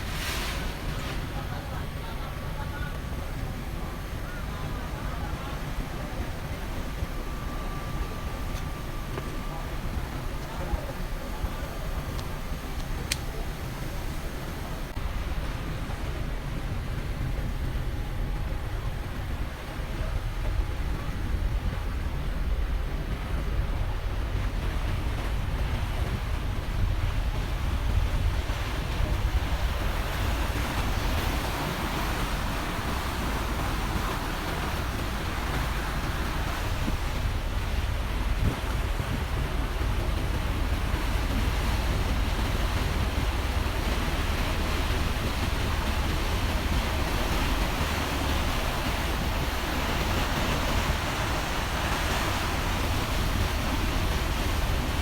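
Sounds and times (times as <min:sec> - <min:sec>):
ferry engine rumble: 0:00.0 - 0:55.0
water rushing along hull: 0:00.0 - 0:55.0
wind buffeting microphone: 0:00.0 - 0:55.0.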